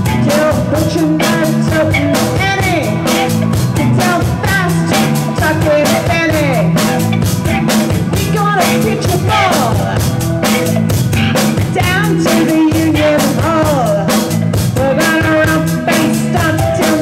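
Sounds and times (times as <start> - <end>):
blues-rock band playing: 0.0 - 17.0
sliding guitar lead line: 0.0 - 17.0.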